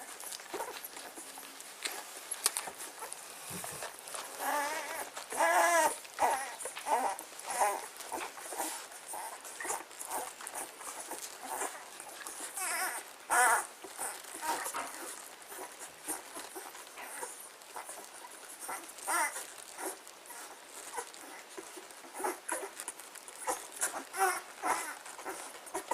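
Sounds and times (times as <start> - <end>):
dogs whining and yelping: 0.0 - 25.9.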